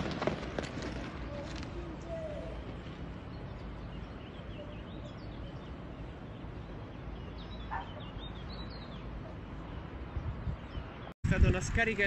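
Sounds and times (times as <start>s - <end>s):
low outdoor rumble: 0.0s - 12.0s
small birds chirping: 1.2s - 11.2s
lower bird call: 1.3s - 11.1s.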